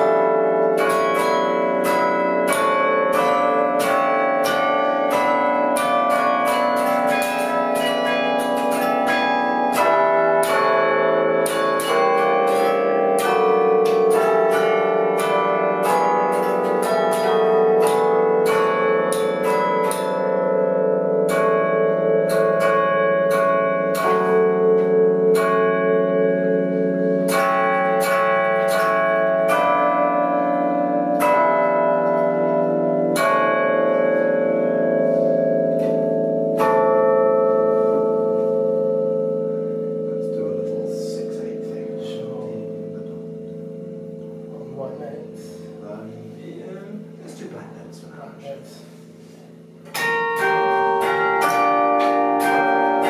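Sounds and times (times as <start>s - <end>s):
bells ringing: 0.0s - 53.0s.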